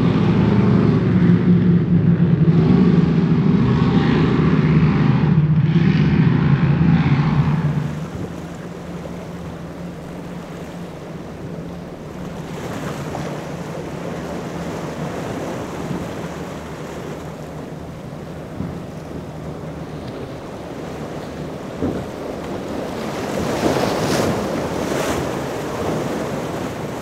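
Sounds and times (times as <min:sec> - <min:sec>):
boat engine droning: 0:00.0 - 0:27.0
surf: 0:00.0 - 0:27.0
wind buffeting microphone: 0:00.0 - 0:27.0.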